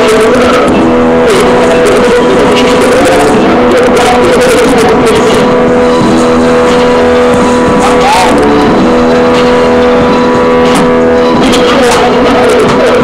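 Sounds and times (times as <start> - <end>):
held synthesizer chord: 0.0 - 13.0
percussive hits: 0.5 - 13.0.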